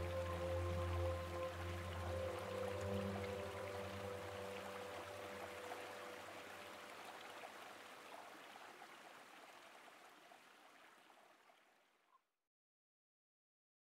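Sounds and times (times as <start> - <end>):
faint flowing stream: 0.0 - 12.2.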